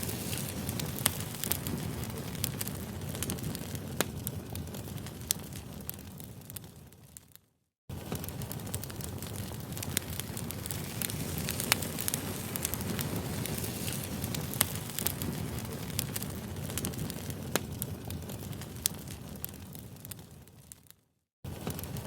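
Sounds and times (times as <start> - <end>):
campfire flame rushing: 0.0 - 6.8, 7.9 - 20.6, 21.5 - 22.0
burning wood crackling and popping: 0.0 - 22.0.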